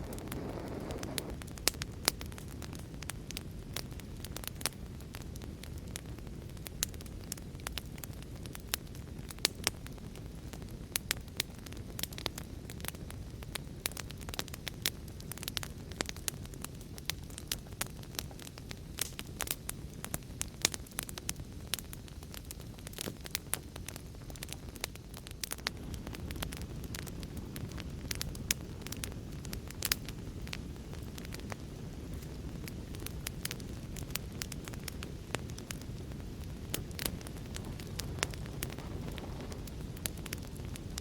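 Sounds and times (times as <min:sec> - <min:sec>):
fire crackling: 0:00.0 - 0:41.0.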